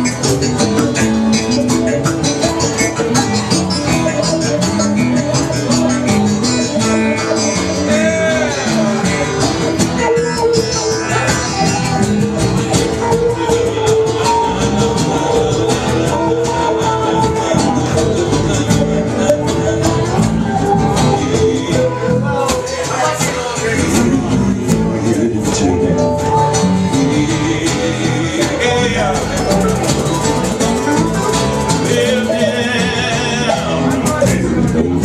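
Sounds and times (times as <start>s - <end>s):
bass: 0.0s - 35.0s
electric guitar: 0.0s - 35.0s
steady drum beat: 0.0s - 35.0s.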